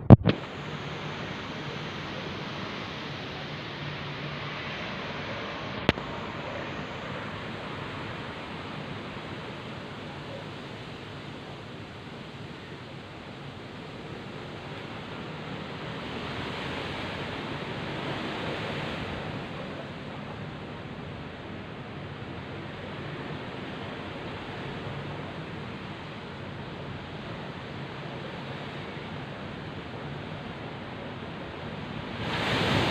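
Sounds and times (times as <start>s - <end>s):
heavy rain: 0.0s - 32.9s
strong wind: 0.0s - 32.9s.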